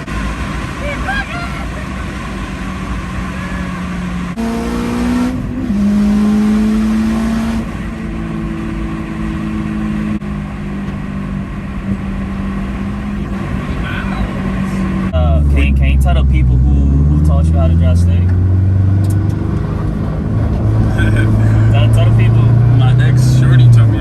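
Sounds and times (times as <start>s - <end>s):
car engine heard from cabin: 0.0s - 24.0s.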